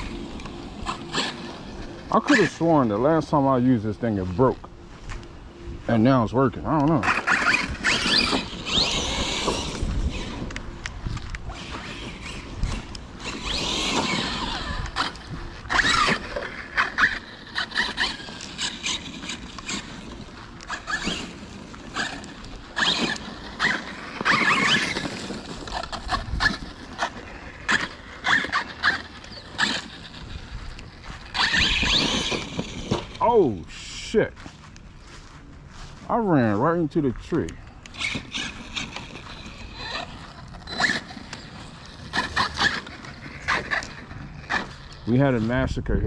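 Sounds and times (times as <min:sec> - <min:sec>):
rc car motor whine: 0:00.0 - 0:34.8, 0:37.5 - 0:45.7.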